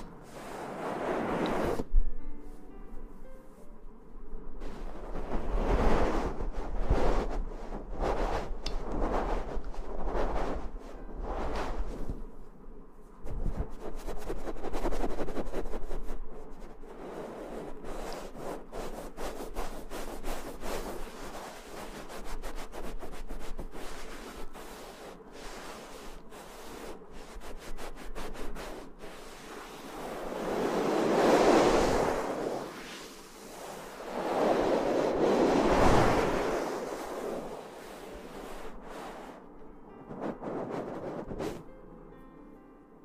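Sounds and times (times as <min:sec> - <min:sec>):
rubbing whooshes: 0:00.0 - 0:02.0, 0:04.6 - 0:12.5, 0:13.2 - 0:41.7.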